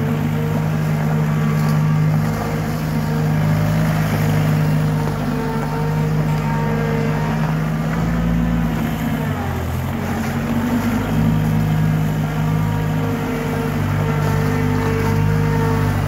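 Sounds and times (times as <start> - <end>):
skid-steer loader engine running: 0.0 - 16.0.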